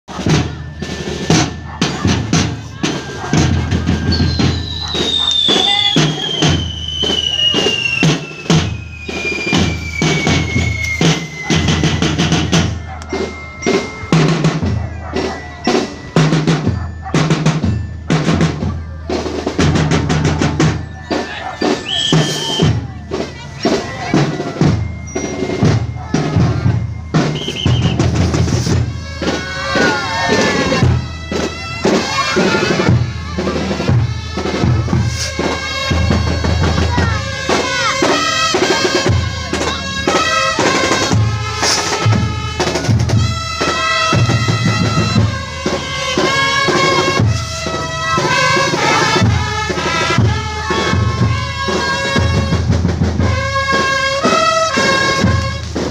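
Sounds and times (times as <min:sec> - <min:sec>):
bass drum and snare march: 0:00.1 - 0:55.9
wind instruments melody: 0:00.1 - 0:55.9.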